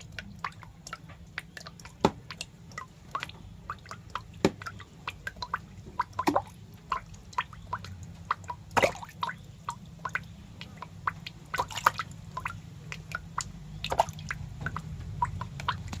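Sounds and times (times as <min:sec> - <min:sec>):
low steady hum: 0:00.0 - 0:16.0
wet clicks and small pops: 0:00.0 - 0:16.0.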